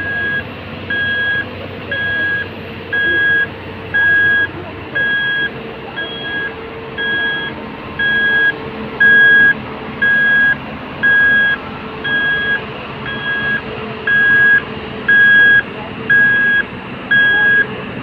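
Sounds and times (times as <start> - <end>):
diesel engine droning: 0.0 - 18.0
truck reversing alarm beeping: 0.0 - 18.0.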